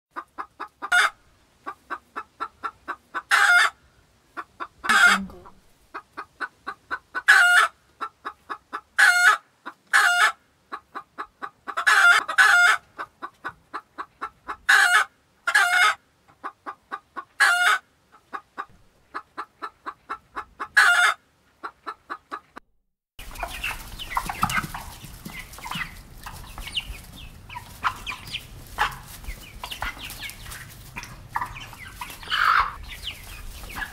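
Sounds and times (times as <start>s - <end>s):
chickens clucking: 0.1s - 22.6s, 23.2s - 33.9s
background noise: 0.1s - 33.9s
hen cackling: 0.2s - 3.8s, 4.4s - 22.4s, 23.2s - 33.9s.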